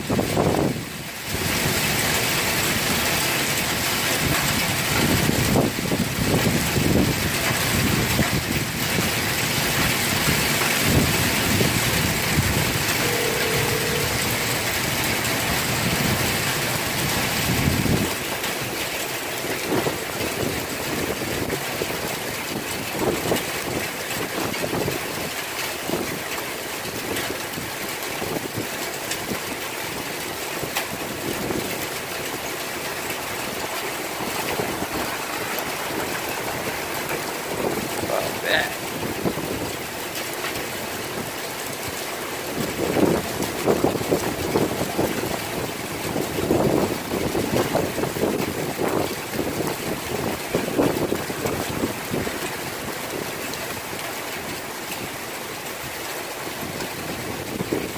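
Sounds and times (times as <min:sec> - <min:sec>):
heavy rain and hail on pavement: 0:00.0 - 0:57.9.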